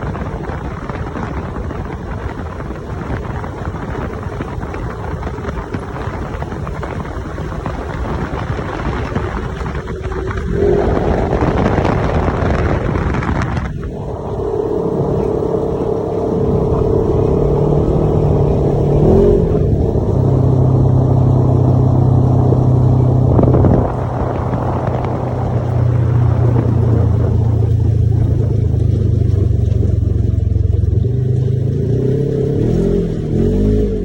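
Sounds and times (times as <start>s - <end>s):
utility vehicle engine running: 0.0s - 34.0s.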